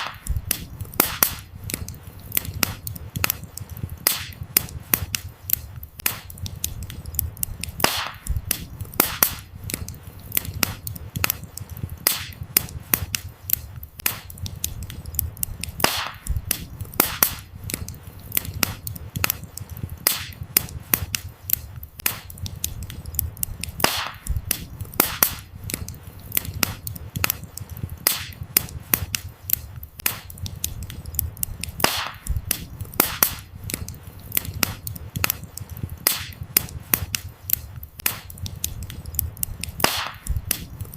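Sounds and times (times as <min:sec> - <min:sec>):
firewood crackling and popping: 0:00.0 - 0:40.9
low rumble of flames: 0:00.1 - 0:40.9.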